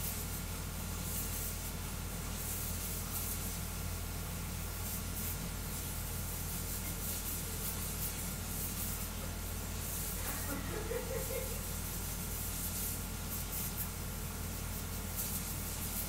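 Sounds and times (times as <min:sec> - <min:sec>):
printer fans and motors hissing: 0:00.0 - 0:16.0.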